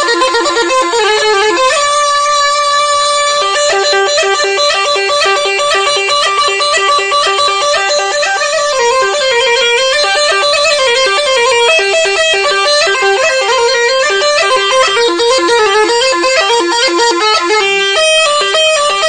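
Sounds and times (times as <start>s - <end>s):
bagpipe dance melody: 0.0s - 19.0s.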